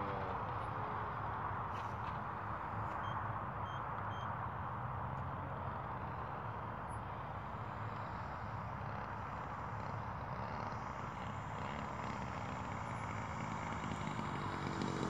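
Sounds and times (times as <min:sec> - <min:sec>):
distant model aeroplane engine: 0:00.0 - 0:15.0.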